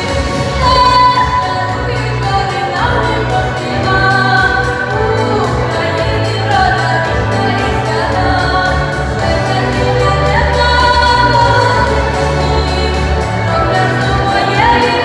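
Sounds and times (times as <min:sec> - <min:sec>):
instrumental backing with beat: 0:00.0 - 0:15.0
song with sung vocals: 0:00.0 - 0:15.0.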